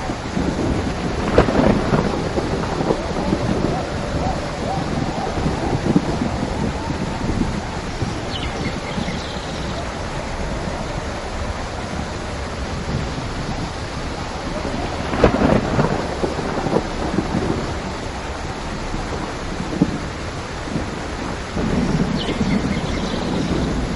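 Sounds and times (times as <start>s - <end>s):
crackling peal of thunder: 0.0s - 23.9s
rolling thunder: 0.0s - 23.9s
steady rain: 0.0s - 23.9s.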